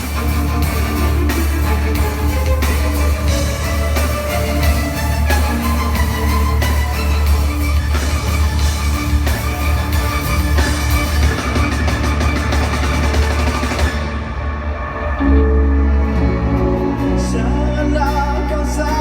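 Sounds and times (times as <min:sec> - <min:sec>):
drums: 0:00.0 - 0:19.0
guitar: 0:00.0 - 0:19.0
heavy bass line: 0:00.0 - 0:19.0.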